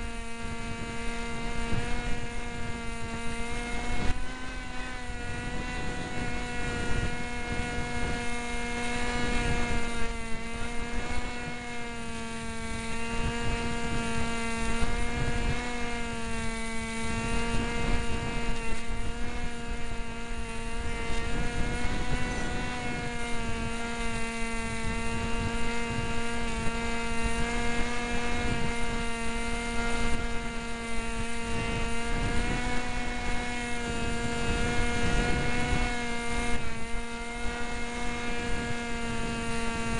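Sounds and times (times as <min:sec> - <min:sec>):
model plane motor buzzing: 0:00.0 - 0:39.9
wind buffeting microphone: 0:00.0 - 0:39.9.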